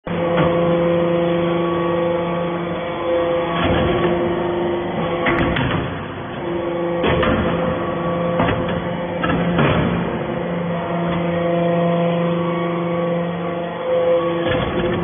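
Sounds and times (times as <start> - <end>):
hydraulic press humming: 0.1 - 15.0.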